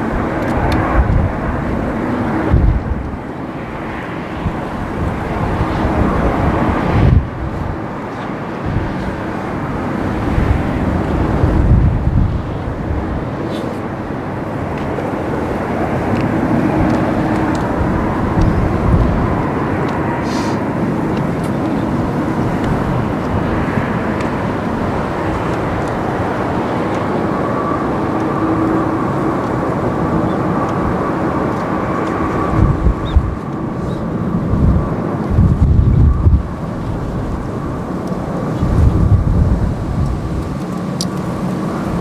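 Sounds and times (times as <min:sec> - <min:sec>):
jet engines whining: 0:00.0 - 0:42.0
wind buffeting microphone: 0:00.0 - 0:42.0.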